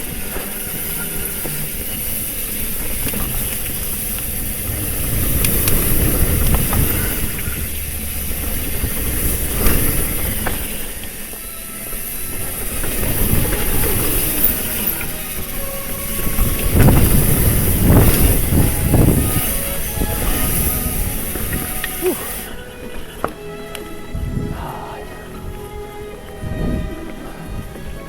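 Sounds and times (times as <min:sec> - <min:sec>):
bike tyres rumbling on dirt trail: 0:00.0 - 0:24.7
rattling over roots and rocks: 0:00.0 - 0:28.0.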